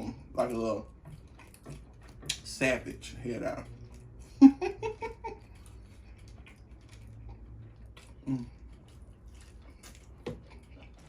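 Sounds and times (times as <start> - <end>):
person chewing wetly: 0.0 - 11.0.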